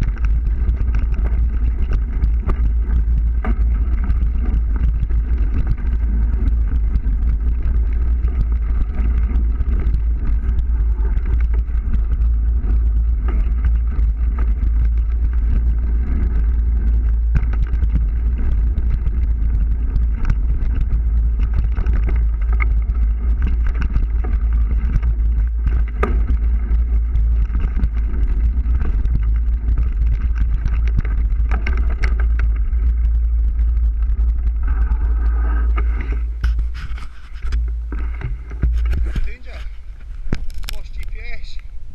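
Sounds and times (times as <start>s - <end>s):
small knocks: 0.0s - 41.7s
ground noise on rough trail: 0.0s - 41.9s
wind rumble on microphone: 0.0s - 41.9s.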